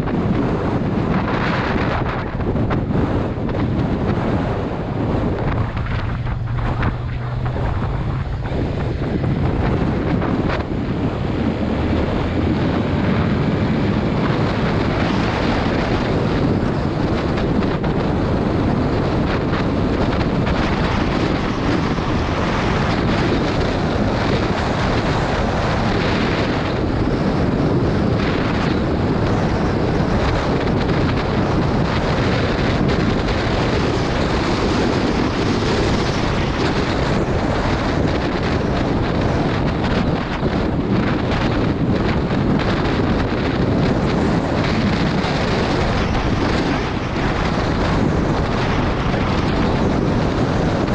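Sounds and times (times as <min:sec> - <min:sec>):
motorcycle engine running: 0:00.0 - 0:50.9
wind buffeting microphone: 0:00.0 - 0:50.9.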